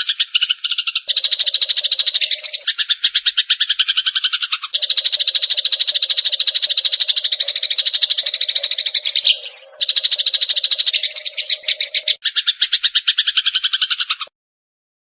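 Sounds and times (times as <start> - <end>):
sparrows chattering: 0.0 - 14.3.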